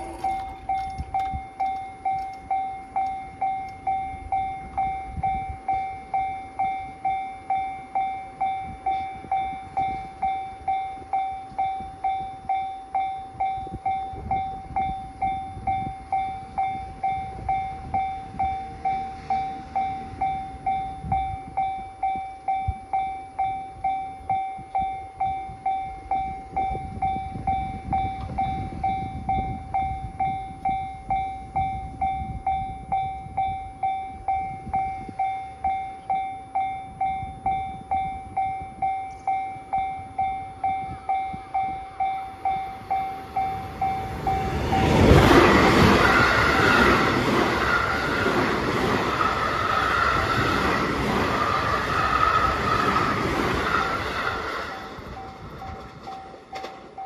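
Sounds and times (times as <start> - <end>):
level crossing warning bell: 0.0 - 57.0.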